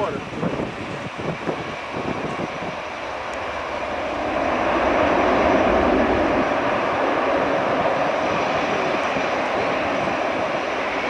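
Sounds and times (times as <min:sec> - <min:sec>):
jet engine rushing: 0:00.0 - 0:11.0.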